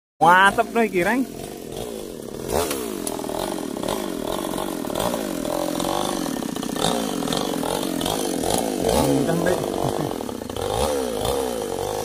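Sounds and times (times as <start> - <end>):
chainsaw engine running: 0.2 - 12.0.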